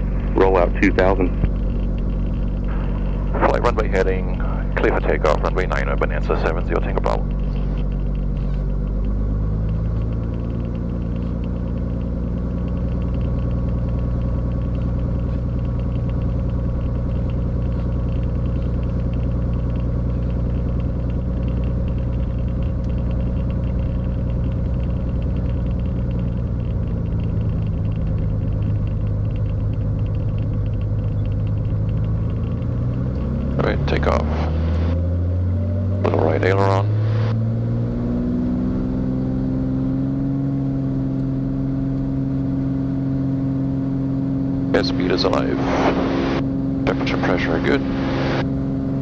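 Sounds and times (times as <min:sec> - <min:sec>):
propeller plane engine running: 0:00.0 - 0:49.0.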